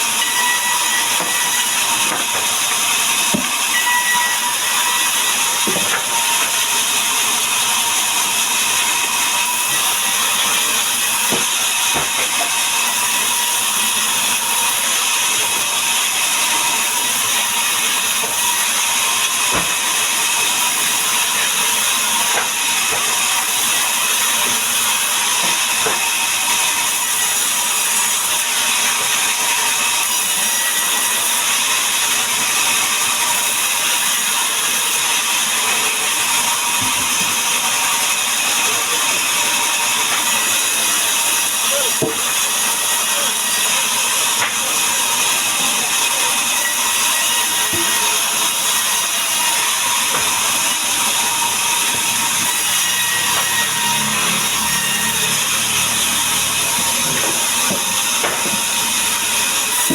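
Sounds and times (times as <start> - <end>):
power saw cutting timber: 0.0 - 59.9.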